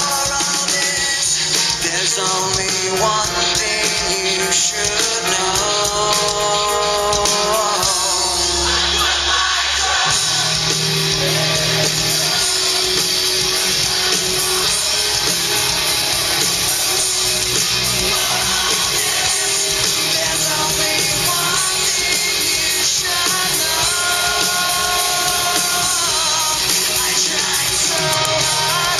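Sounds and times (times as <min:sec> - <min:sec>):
rock song with vocals: 0:00.0 - 0:28.9.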